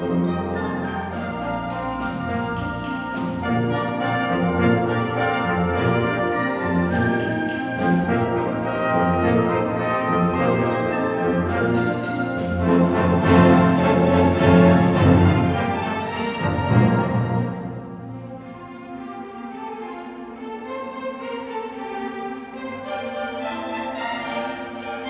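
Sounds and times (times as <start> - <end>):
symphony orchestra playing: 0.0 - 25.0.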